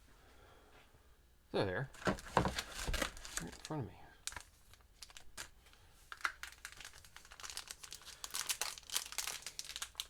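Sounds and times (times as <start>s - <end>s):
packaging crinkling and rustling: 1.9s - 10.0s.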